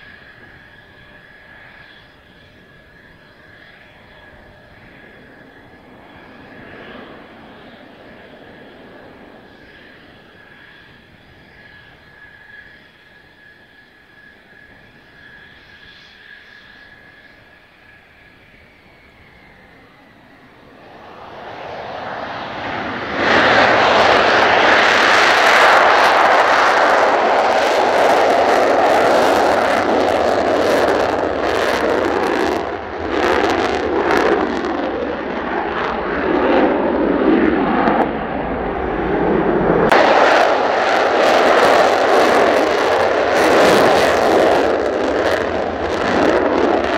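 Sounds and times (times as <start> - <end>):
jet engine whine: 0.0 - 46.9.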